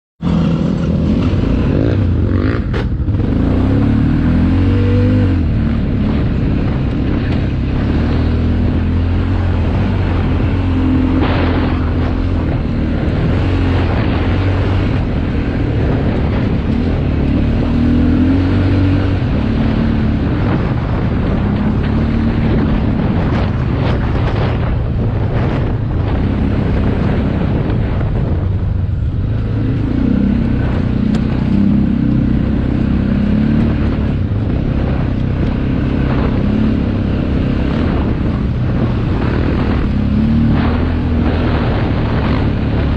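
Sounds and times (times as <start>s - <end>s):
motocross engine revving: 0.2s - 24.4s, 29.5s - 42.9s.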